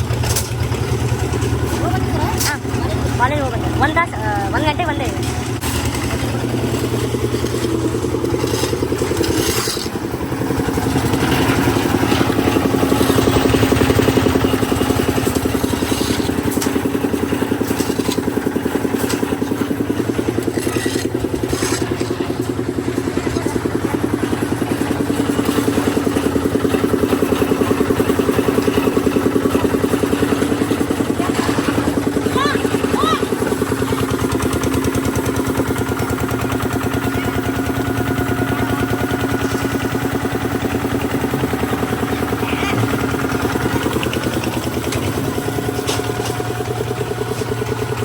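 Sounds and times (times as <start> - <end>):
small engine running steadily: 0.0 - 48.0.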